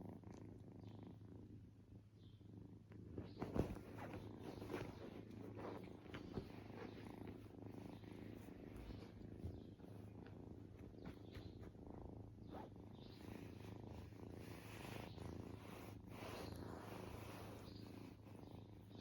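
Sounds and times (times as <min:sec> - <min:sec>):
kitten purring: 0:00.0 - 0:19.0.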